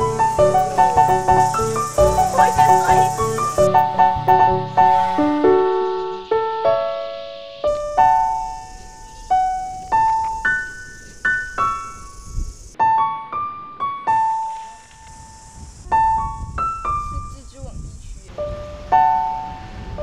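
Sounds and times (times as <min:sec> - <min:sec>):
slow piano melody: 0:00.0 - 0:17.4, 0:18.3 - 0:20.0.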